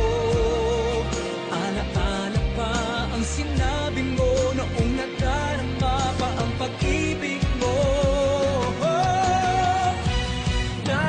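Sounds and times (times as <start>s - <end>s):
backing instruments: 0.0s - 11.0s
person singing with vibrato: 0.0s - 11.0s
steady drum beat: 0.0s - 11.0s.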